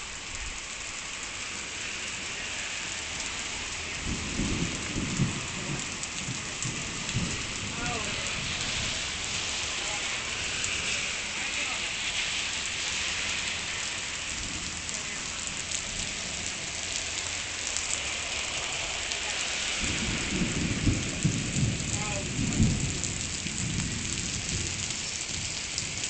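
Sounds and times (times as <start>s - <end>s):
heavy rain falling: 0.0s - 26.0s
thunder rumbling: 3.6s - 12.7s, 14.2s - 26.0s.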